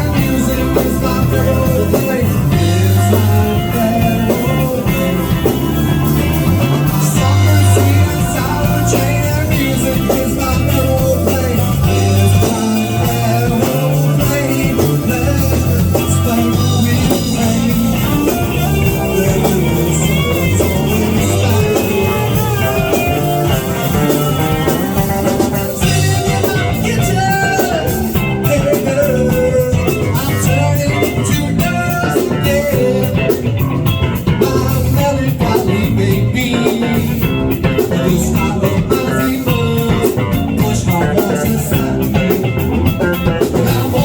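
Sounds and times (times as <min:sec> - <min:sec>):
person singing: 0:00.0 - 0:44.0
rock music: 0:00.0 - 0:44.0.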